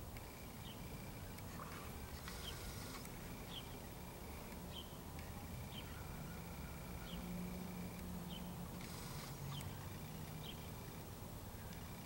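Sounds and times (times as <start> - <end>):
low steady hum: 0.0 - 12.0
songbird chirping: 0.0 - 12.0.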